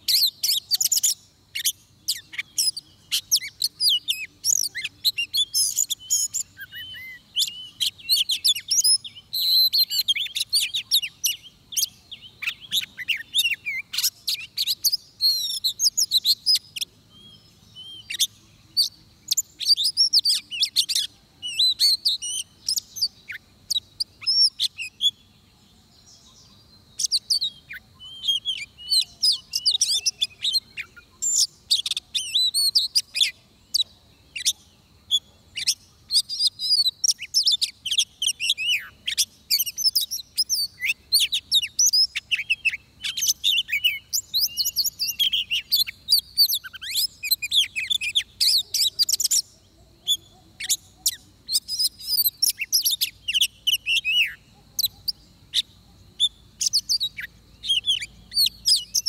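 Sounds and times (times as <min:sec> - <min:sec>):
magpie-robin singing: 0:00.0 - 0:25.4, 0:26.1 - 0:59.0.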